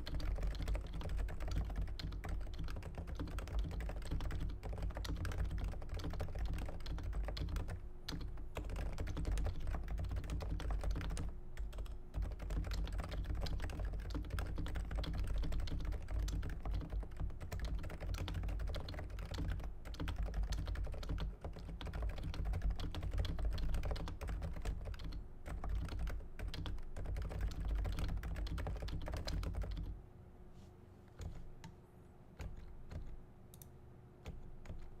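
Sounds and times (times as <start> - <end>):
fast keyboard typing: 0.0 - 30.0, 31.2 - 31.6, 32.4 - 35.0.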